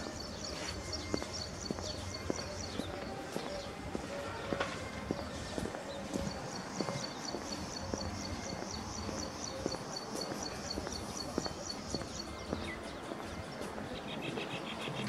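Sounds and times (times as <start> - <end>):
footsteps on paving: 0.0 - 14.0.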